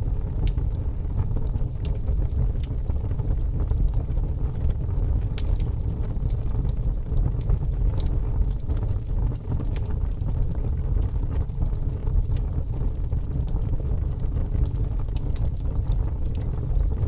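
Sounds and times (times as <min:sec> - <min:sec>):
fire popping and snapping: 0:00.0 - 0:17.0.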